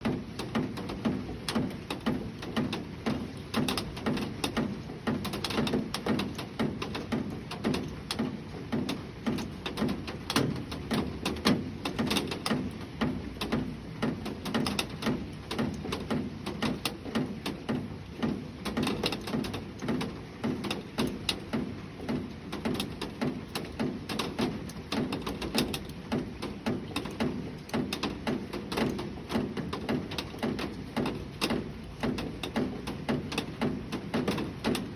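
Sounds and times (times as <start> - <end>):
rain pattering on a surface: 0.0 - 34.9.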